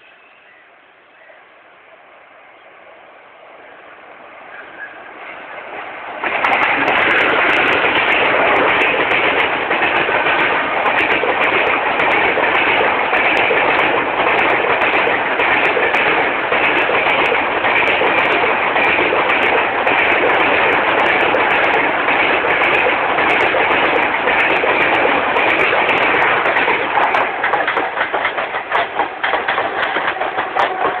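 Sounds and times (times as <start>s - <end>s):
train wheel and wind rush: 0.0s - 31.0s
wheels clattering over rail joints: 5.7s - 31.0s.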